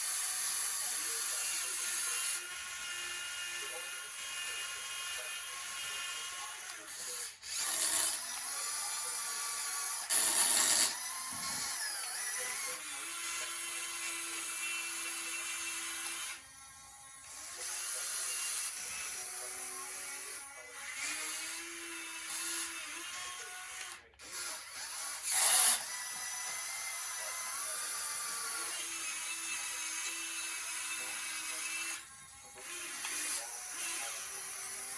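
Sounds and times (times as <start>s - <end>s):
small electric motors whining: 0.0s - 34.9s.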